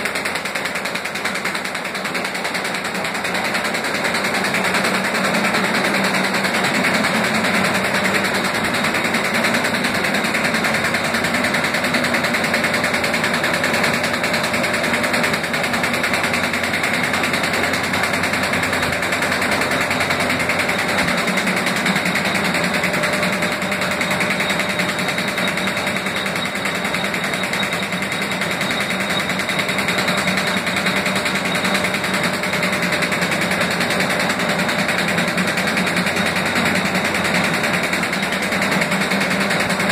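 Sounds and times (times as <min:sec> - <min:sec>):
machine rattling rapidly: 0:00.0 - 0:39.9.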